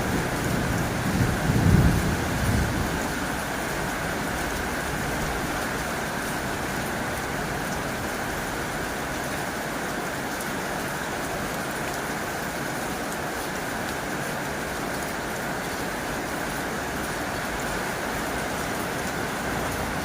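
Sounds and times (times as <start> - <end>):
heavy rain on a tin roof: 0.0 - 20.0.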